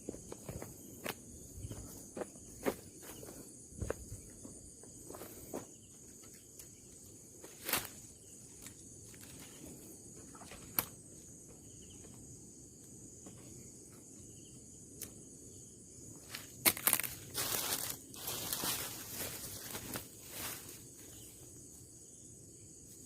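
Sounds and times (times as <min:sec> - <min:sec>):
crickets and insects chirping: 0:00.0 - 0:23.0.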